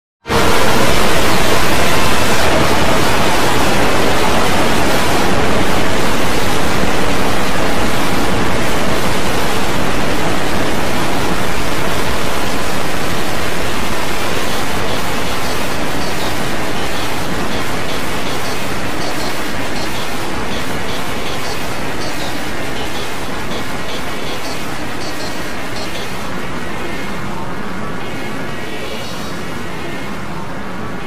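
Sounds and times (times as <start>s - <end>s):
many soundtracks playing at once: 0.3s - 31.0s.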